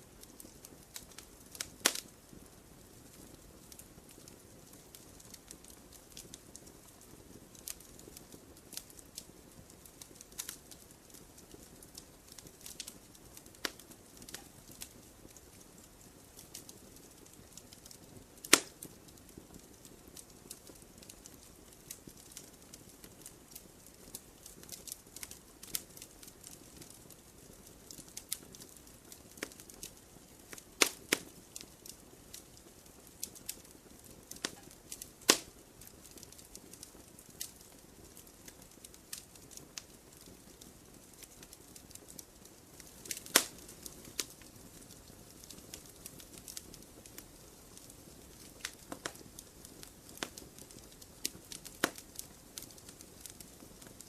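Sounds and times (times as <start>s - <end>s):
hiss of burning: 0.0s - 26.9s, 27.8s - 54.0s
campfire crackling and popping: 0.0s - 54.0s.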